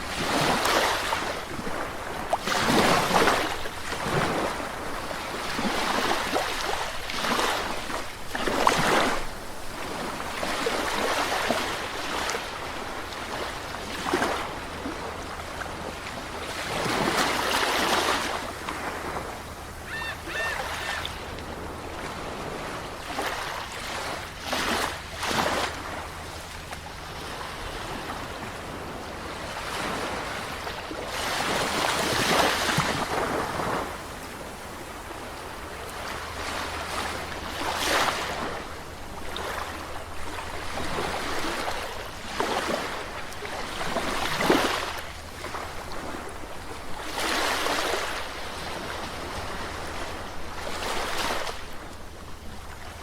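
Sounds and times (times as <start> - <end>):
sea waves breaking: 0.0 - 53.0.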